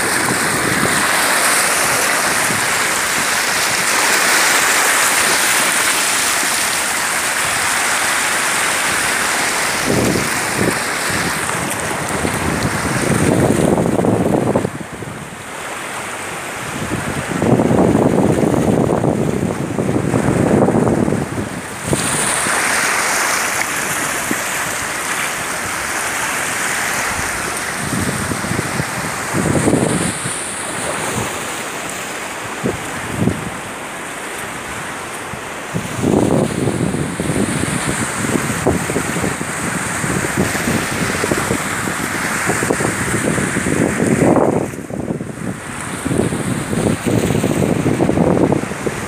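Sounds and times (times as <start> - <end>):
surf washing over rocks: 0.0 - 49.0
wind on microphone: 0.0 - 49.0.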